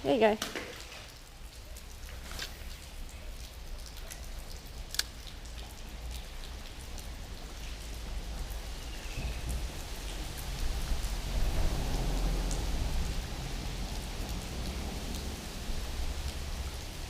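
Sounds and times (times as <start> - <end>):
raindrops ticking: 0.0 - 17.0
steady rain: 0.0 - 17.0.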